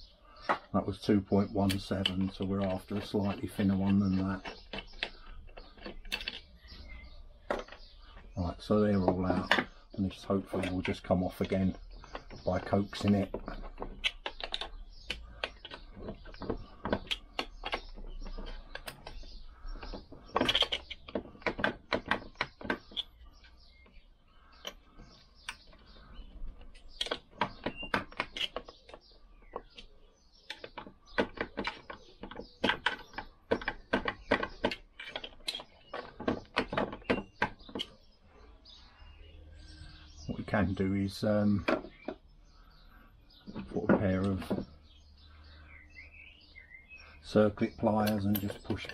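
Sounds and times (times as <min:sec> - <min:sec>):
metallic clicks and knocks: 0:00.4 - 0:38.1, 0:47.3 - 0:48.9.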